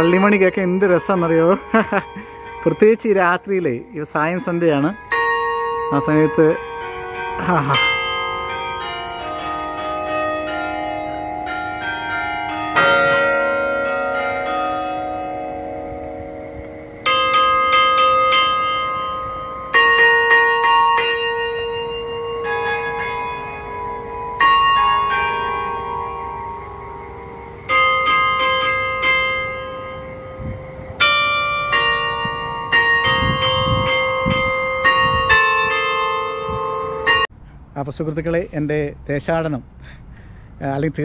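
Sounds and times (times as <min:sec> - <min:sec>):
church bells ringing: 0:00.0 - 0:37.3.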